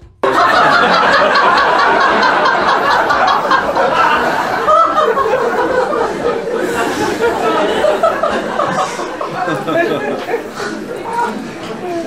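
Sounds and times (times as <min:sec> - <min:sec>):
loud laughter: 0:00.2 - 0:12.0.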